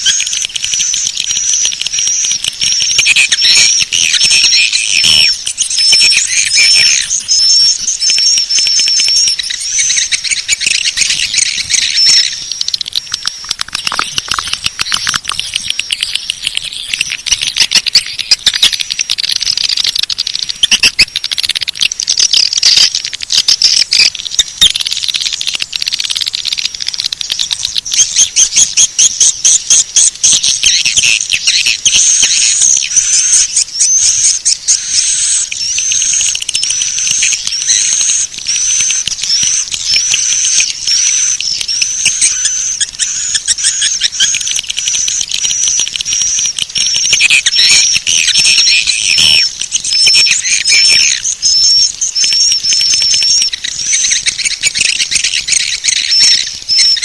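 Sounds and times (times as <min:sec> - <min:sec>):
bird twittering and clicking: 0:00.0 - 0:57.0.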